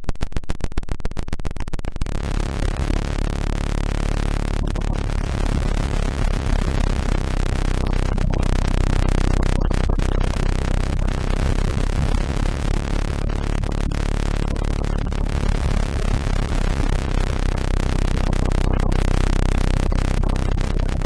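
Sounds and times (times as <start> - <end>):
hissing noise: 2.1 - 21.0.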